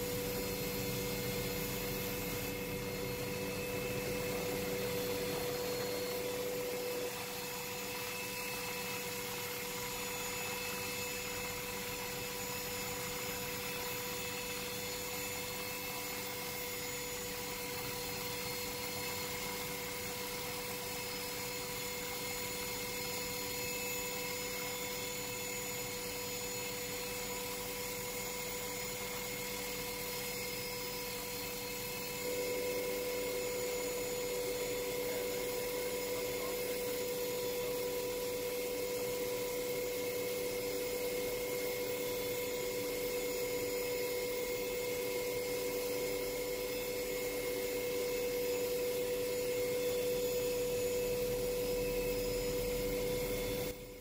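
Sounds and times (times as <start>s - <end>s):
helicopter cabin drone: 0.0s - 54.0s.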